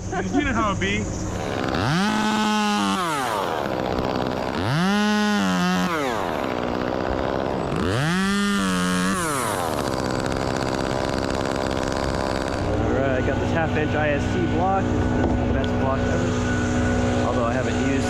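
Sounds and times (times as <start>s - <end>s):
chainsaw revving: 1.0s - 18.0s.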